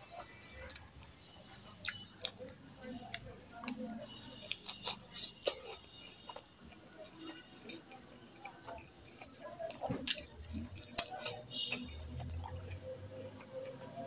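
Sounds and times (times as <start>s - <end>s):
wet chewing and lip smacks: 0.5s - 14.0s.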